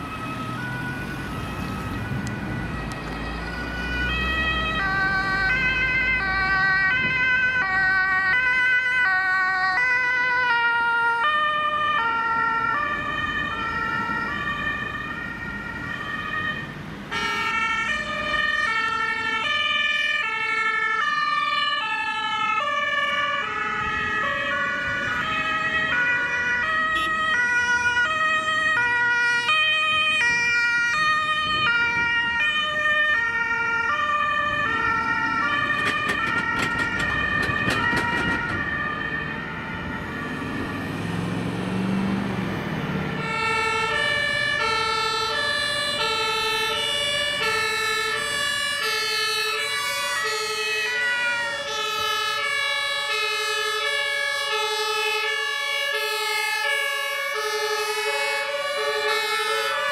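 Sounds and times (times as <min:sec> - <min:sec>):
passing vehicles road noise: 0:00.0 - 0:59.9
two-tone ambulance sirens: 0:00.0 - 0:59.9.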